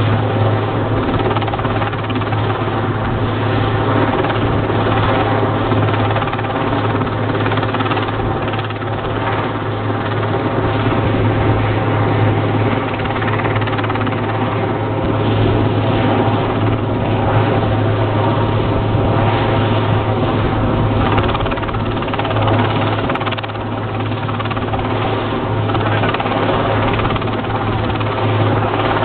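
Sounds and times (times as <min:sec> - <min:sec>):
helicopter rotor and turbine: 0:00.0 - 0:29.0.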